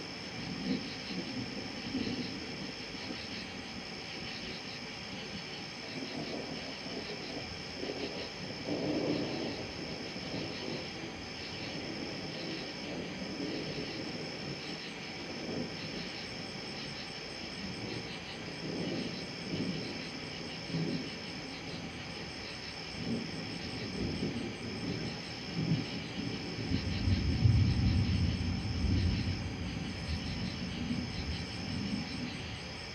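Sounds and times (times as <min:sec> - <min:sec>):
distant thunder rumbling: 0:00.0 - 0:32.9
night insects trilling: 0:00.0 - 0:32.9.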